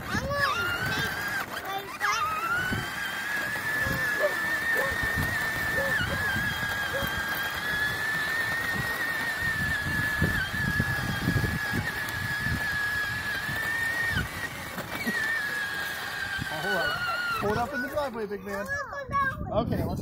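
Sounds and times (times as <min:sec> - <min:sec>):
electric motor whining: 0:00.0 - 0:18.8
plastic wheels rumbling on concrete: 0:00.0 - 0:20.0.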